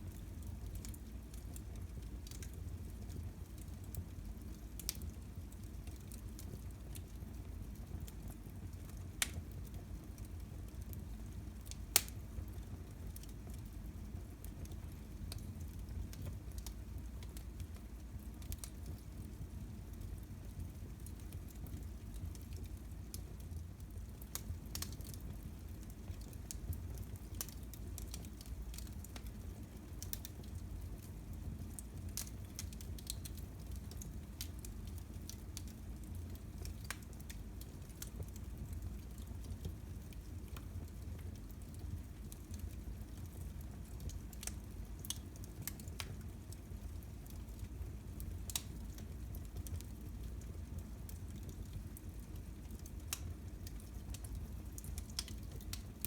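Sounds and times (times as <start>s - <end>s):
fire crackling in fireplace: 0.0s - 56.0s.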